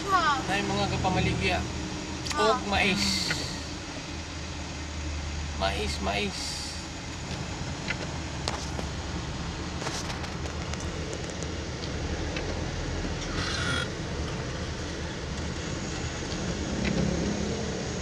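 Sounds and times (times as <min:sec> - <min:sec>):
engine and road rumble in cabin: 0:00.0 - 0:18.0.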